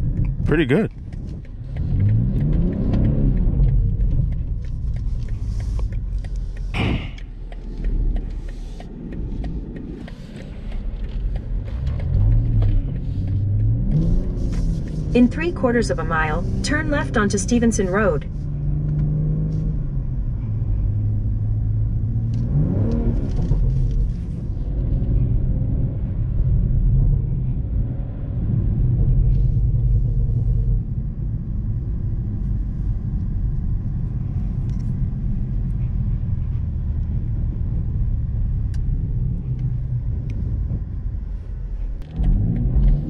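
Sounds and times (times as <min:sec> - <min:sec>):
car engine hum: 0:00.0 - 0:43.0
tyre and road rumble: 0:00.0 - 0:43.0.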